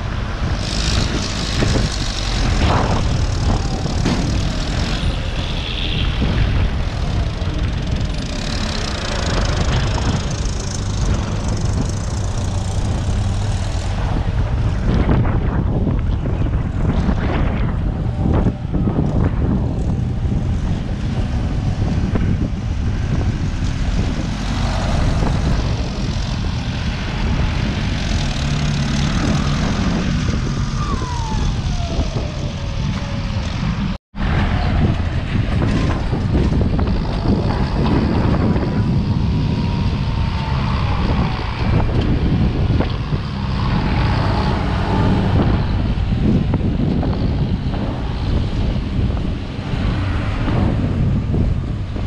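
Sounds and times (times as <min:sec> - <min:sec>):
tractor diesel engine under load: 0:00.0 - 0:30.8, 0:31.7 - 0:52.0.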